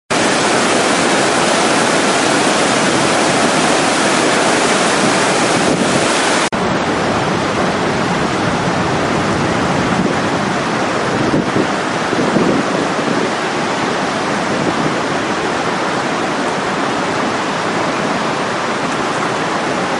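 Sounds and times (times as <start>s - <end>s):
river in flood rushing: 0.1s - 19.9s
rushing water: 0.1s - 19.9s
wind buffeting microphone: 0.1s - 19.9s.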